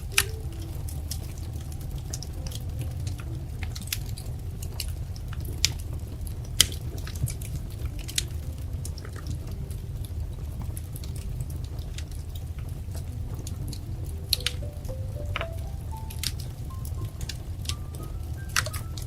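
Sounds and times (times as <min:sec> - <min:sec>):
low rumble of fire: 0:00.0 - 0:19.0
wood fire crackling and popping: 0:00.0 - 0:19.0.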